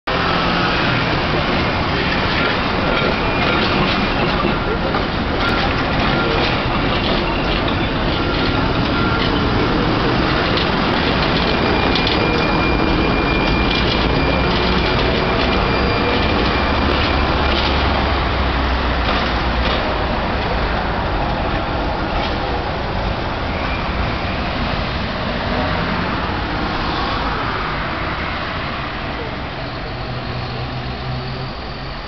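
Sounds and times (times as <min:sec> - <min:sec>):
city traffic noise: 0:00.1 - 0:32.0
tram wheels rumbling on rails: 0:00.1 - 0:32.0.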